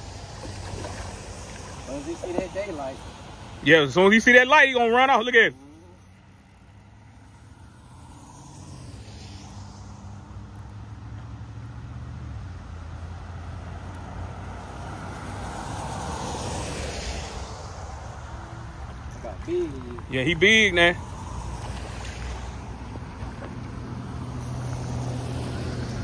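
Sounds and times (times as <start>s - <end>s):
passing engine hum: 0.0s - 26.0s.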